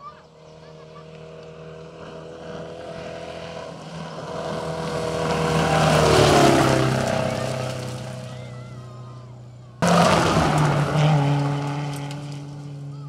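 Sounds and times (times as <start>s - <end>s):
rally car engine passing by: 0.1s - 13.0s.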